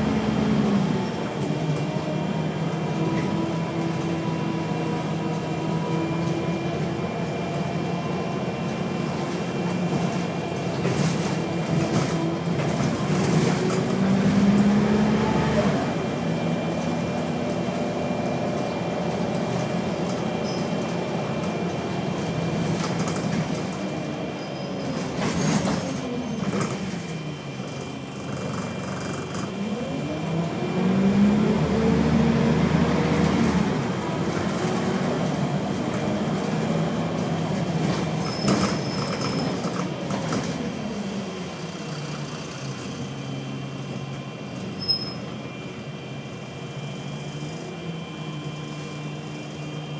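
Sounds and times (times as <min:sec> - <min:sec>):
bus engine: 0:00.0 - 0:49.9.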